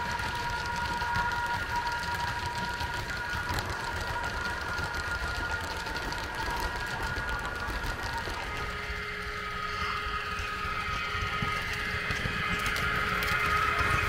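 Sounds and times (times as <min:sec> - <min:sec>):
high-pitched motor whine: 0:00.0 - 0:14.0
model train wagons rumbling and clicking: 0:00.0 - 0:14.0.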